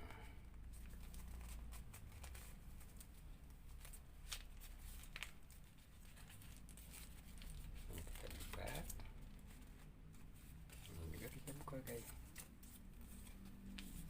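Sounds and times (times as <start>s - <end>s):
paper rustling and crinkling: 0.6s - 14.0s.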